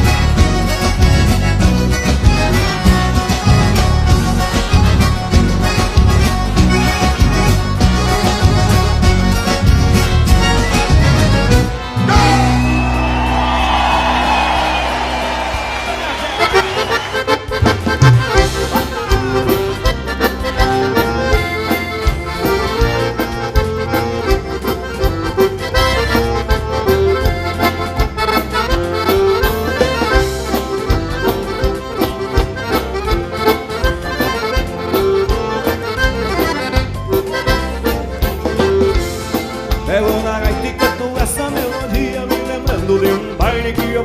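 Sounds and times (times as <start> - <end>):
accordion dance-band music: 0.0 - 44.0.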